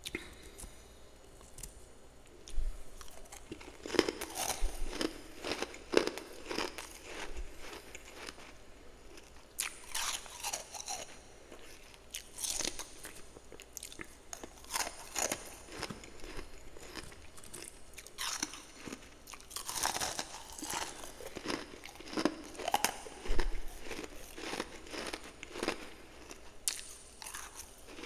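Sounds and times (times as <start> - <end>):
person chewing: 2.4 - 28.0.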